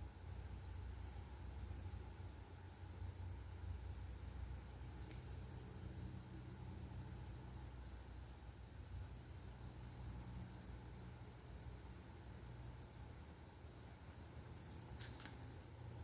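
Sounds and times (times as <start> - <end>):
steady low hum: 0.0 - 16.0
insect trilling: 0.2 - 16.0.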